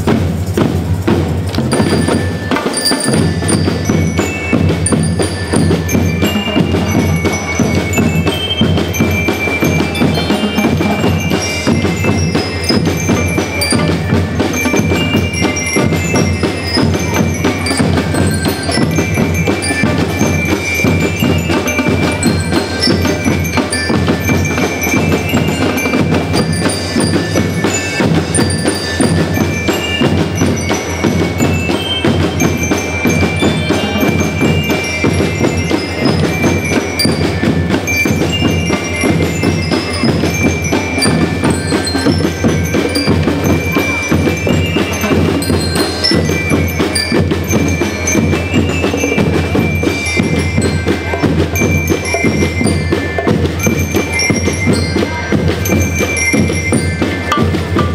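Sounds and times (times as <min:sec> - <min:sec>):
bell lyres melody: 0:00.0 - 0:57.9
snare and bass drums beat: 0:00.0 - 0:57.9.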